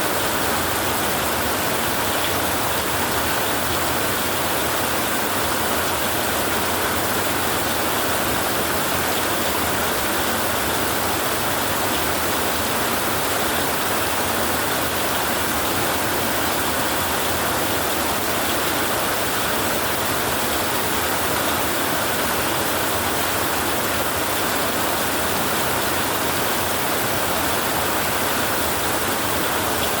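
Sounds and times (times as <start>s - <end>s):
heavy rain on a tin roof: 0.0s - 30.0s.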